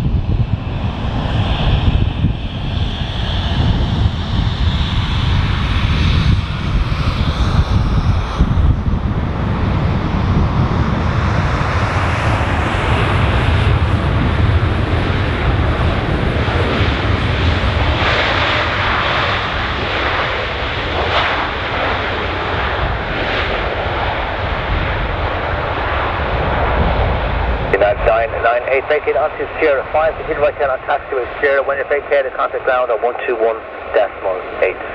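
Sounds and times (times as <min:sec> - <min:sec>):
jet engines rumbling on landing: 0:00.0 - 0:34.9.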